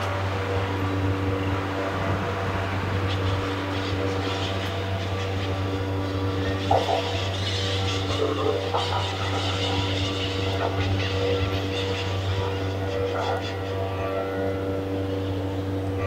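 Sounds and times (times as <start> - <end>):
low droning hum with held tones: 0.0 - 16.0.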